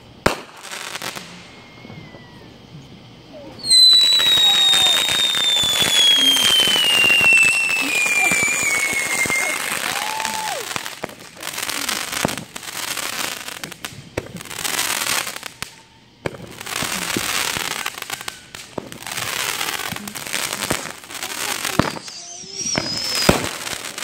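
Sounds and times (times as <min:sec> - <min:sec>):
firework shots popping: 0:00.0 - 0:24.0
hissing crackling spark trail: 0:00.0 - 0:24.0.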